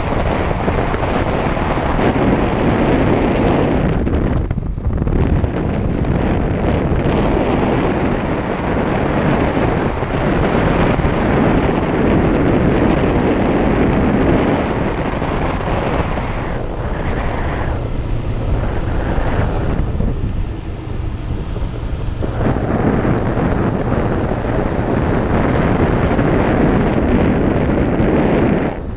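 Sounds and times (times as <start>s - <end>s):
motorcycle engine running: 0.0s - 28.9s
wind buffeting microphone: 0.0s - 28.9s.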